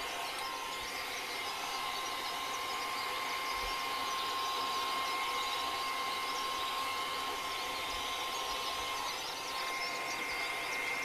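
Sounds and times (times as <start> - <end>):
blow-dryer blowing air: 0.0 - 11.0.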